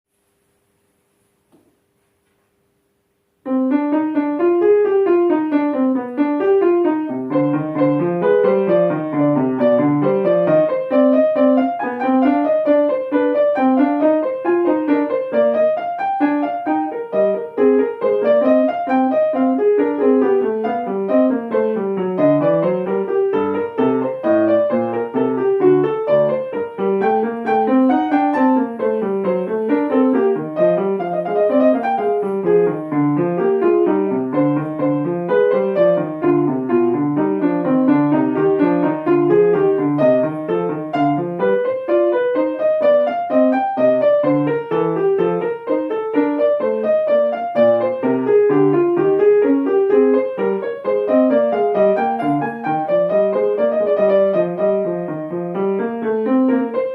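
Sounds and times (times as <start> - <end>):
solo piano running figures: 0.2 - 56.9.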